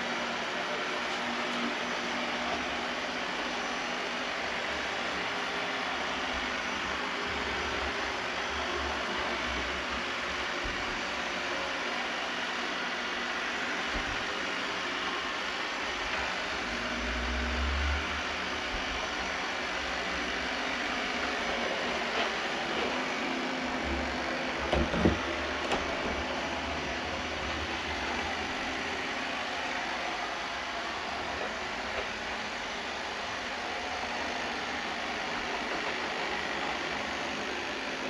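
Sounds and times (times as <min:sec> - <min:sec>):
robot vacuum whirring: 0:00.1 - 0:38.0.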